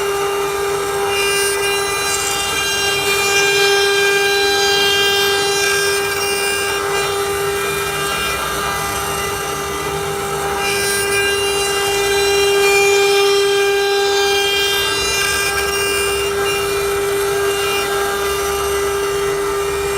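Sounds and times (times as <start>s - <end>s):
bit rasping through wood: 0.0s - 19.9s
router spindle whining: 0.0s - 19.9s.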